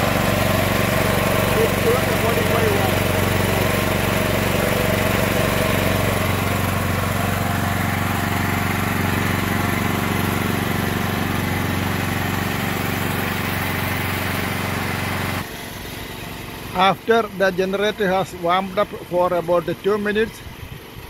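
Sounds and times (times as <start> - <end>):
generator running: 0.0 - 21.0.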